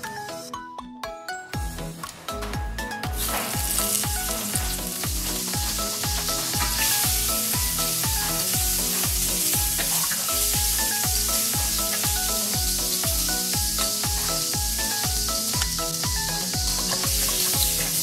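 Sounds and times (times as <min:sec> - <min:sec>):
background music with steady beat: 0:00.0 - 0:18.0
butter sizzling in a frying pan: 0:03.1 - 0:18.0.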